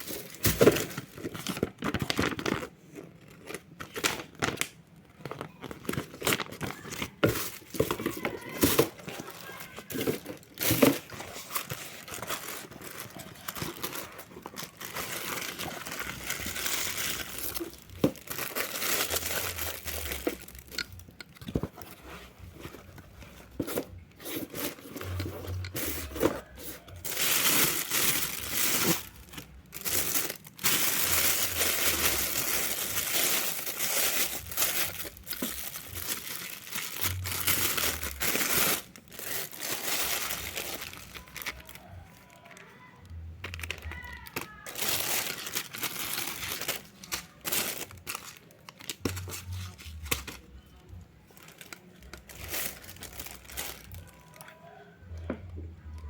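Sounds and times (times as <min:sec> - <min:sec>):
packaging crinkling and tearing: 0:00.0 - 0:54.6.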